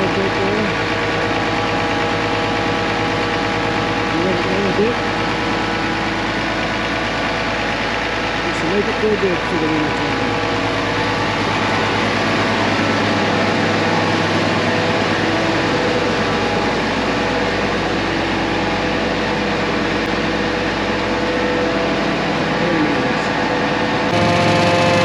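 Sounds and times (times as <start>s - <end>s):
combine engine running: 0.0s - 25.0s.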